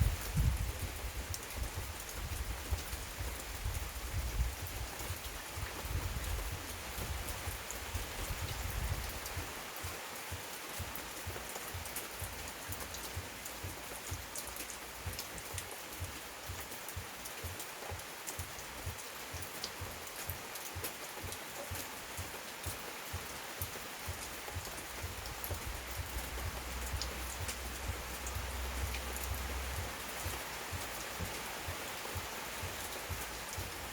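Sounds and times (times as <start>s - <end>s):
heavy rain pouring: 0.0s - 33.9s
raindrops pattering on surfaces: 0.0s - 33.9s.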